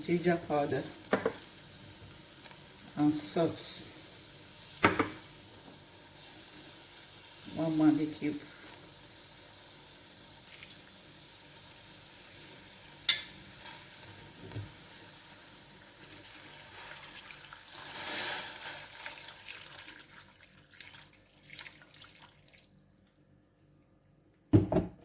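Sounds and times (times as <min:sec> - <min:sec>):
liquid hissing in a pot: 0:00.2 - 0:20.4.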